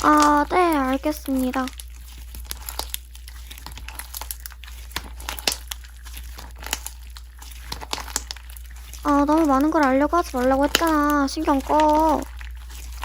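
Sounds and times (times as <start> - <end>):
slime squished by hand: 0.0 - 13.0.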